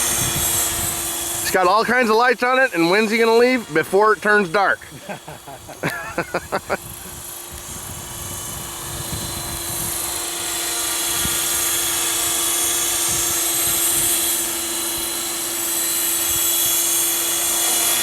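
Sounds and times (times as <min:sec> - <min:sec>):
model helicopter motor whine: 0:00.0 - 0:18.0.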